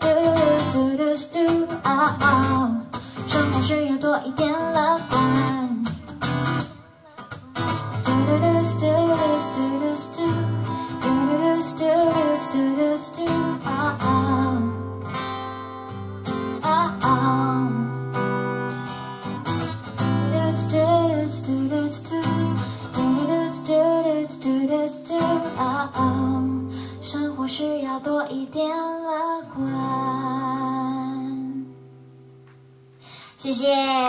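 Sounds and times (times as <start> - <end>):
woman singing: 0.0 - 15.0, 16.2 - 18.4, 20.0 - 31.8
acoustic guitar strummed: 0.0 - 27.9.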